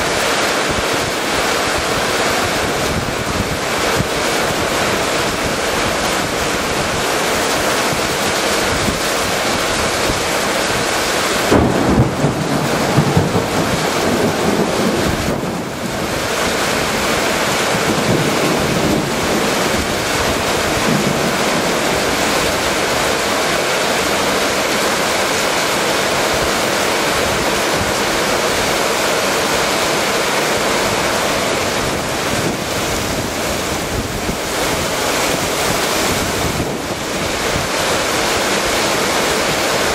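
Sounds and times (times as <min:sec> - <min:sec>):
heavy rain pouring: 0:00.0 - 0:39.9
wind buffeting microphone: 0:00.0 - 0:39.9.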